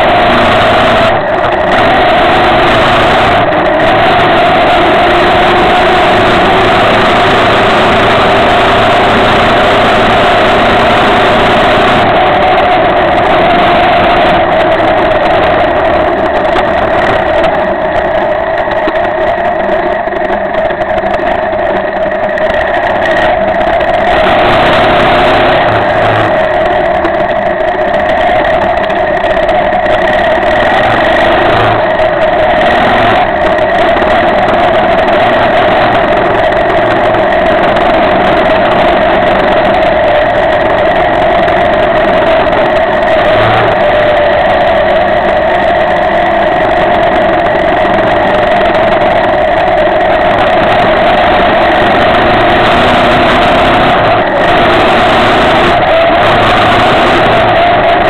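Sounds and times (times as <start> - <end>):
motorcycle engine running: 0.0 - 58.0
road noise: 0.0 - 58.0
wind: 0.0 - 58.0.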